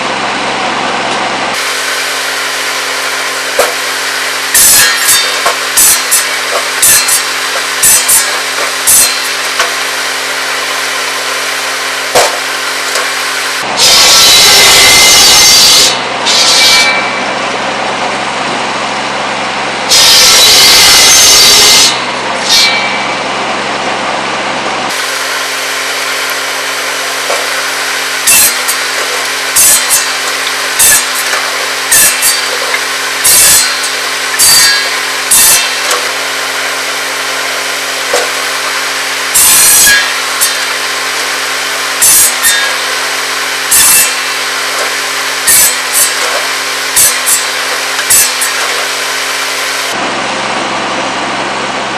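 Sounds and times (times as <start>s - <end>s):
tractor engine: 0.0s - 51.9s
buzz saw spinning: 1.5s - 17.4s, 19.9s - 23.3s, 24.9s - 50.0s
saw blade cutting wood: 1.5s - 17.4s, 19.9s - 23.2s, 24.9s - 50.0s.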